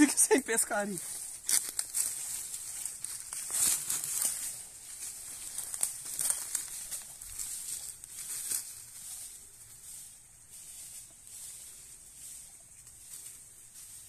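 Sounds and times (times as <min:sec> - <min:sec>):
dry leaves and twigs rustling: 0:00.0 - 0:14.0.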